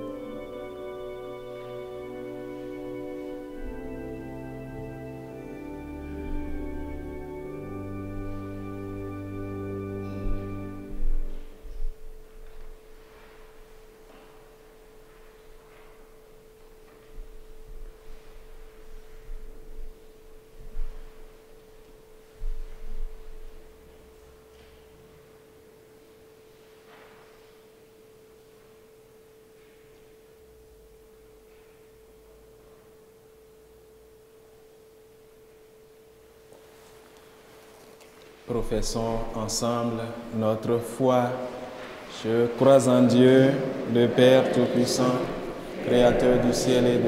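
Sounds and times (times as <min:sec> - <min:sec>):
faint pure tone hum: 0:00.0 - 0:47.0.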